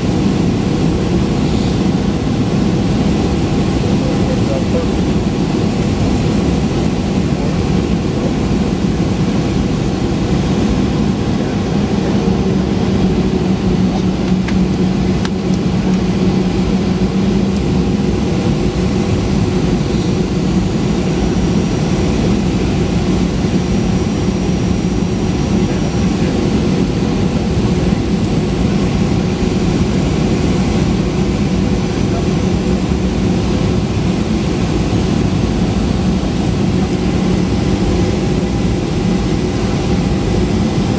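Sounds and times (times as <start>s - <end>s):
jet cabin engine rush: 0.0s - 40.9s.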